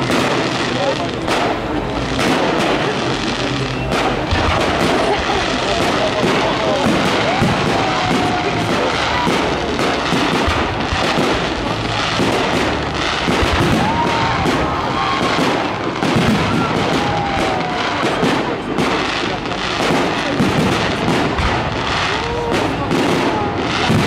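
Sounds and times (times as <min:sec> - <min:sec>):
fireworks bursting and crackling: 0:00.0 - 0:24.0.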